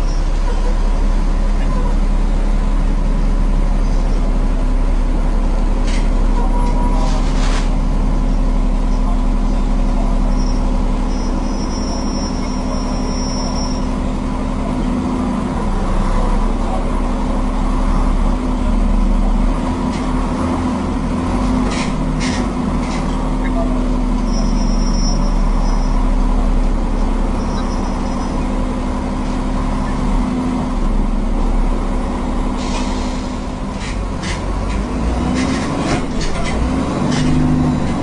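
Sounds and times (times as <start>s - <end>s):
bus diesel engine running: 0.0s - 38.0s.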